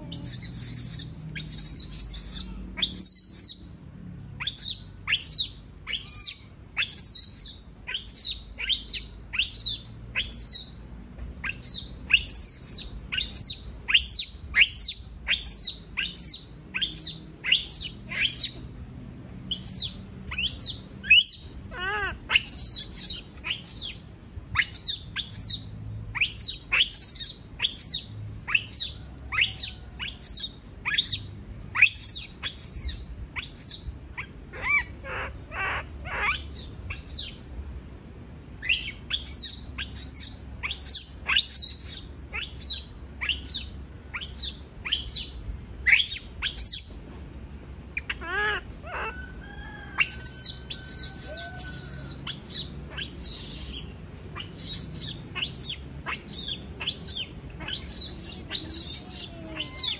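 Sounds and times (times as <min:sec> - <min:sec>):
baby monkey screaming: 0:00.0 - 0:03.7, 0:04.4 - 0:10.8, 0:11.4 - 0:18.6, 0:19.5 - 0:37.5, 0:38.6 - 0:46.9, 0:48.0 - 0:59.9.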